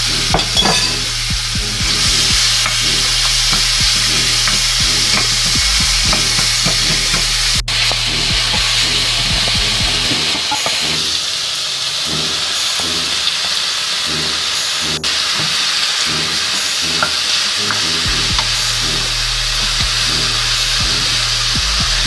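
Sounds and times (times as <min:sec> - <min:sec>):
pork sizzling in a pan: 0:01.8 - 0:21.5.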